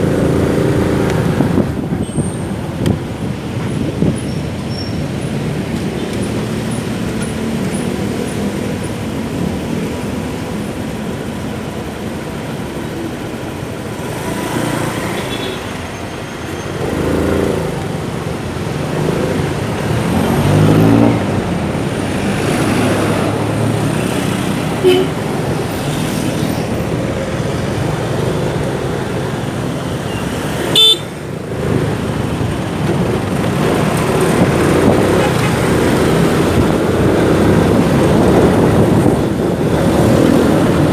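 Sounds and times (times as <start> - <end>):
traffic noise: 0.0 - 40.9.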